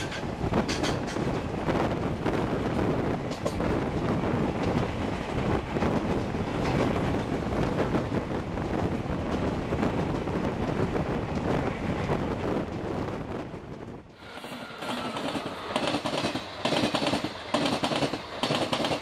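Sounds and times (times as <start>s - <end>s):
train wheels rushing on rails: 0.0s - 19.0s
wind buffeting microphone: 0.0s - 19.0s.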